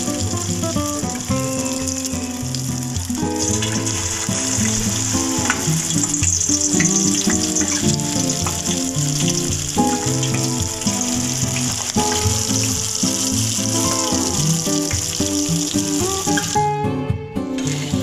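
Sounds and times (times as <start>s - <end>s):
oil sizzling deep-frying: 0.0s - 16.7s
background music: 0.0s - 18.0s.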